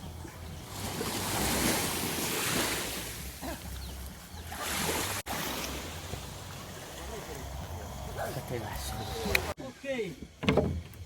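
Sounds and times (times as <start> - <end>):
sea waves washing: 0.0 - 9.6.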